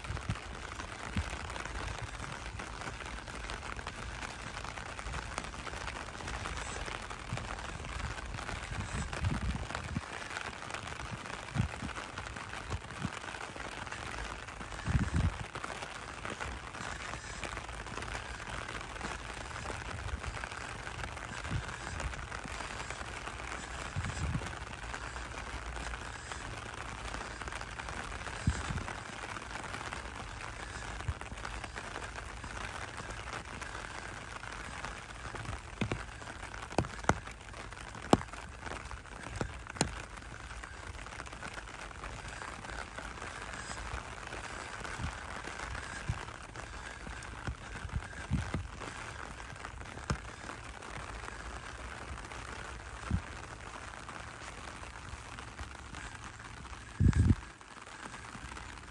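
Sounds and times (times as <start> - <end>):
rain on pavement and grass: 0.0 - 58.9.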